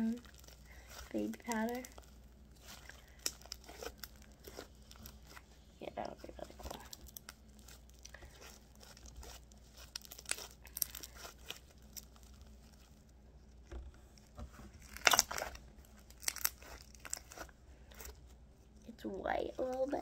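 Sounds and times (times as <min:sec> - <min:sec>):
slime crackling and popping: 0:00.0 - 0:18.2.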